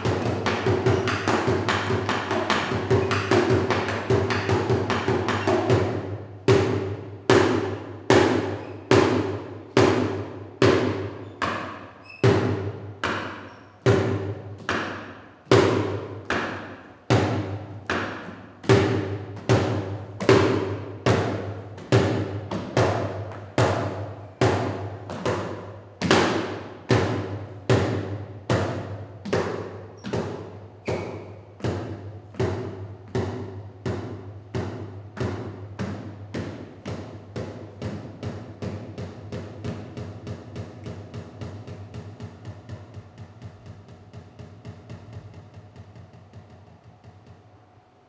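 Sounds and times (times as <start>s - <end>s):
drumsticks beating plastic bucket: 0.0s - 47.6s.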